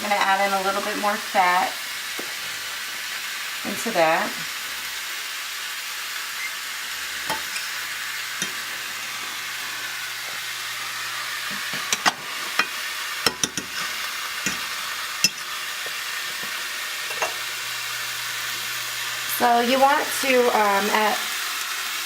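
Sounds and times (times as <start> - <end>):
steak sizzling in a grill pan: 0.0 - 22.0.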